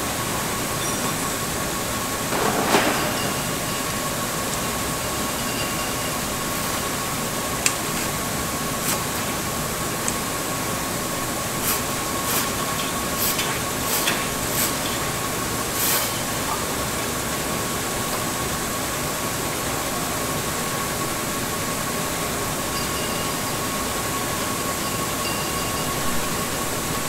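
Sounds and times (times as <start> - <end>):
machine running with high whine: 0.0 - 27.0.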